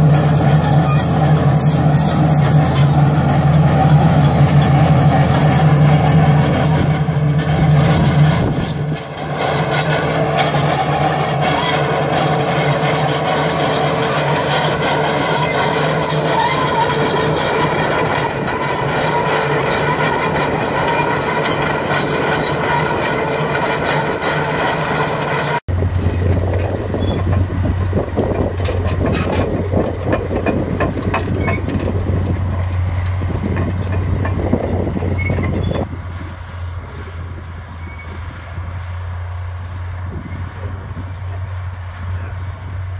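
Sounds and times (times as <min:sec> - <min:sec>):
dozer diesel engine under load: 0:00.0 - 0:42.9
dozer with lower engine note: 0:00.0 - 0:42.9.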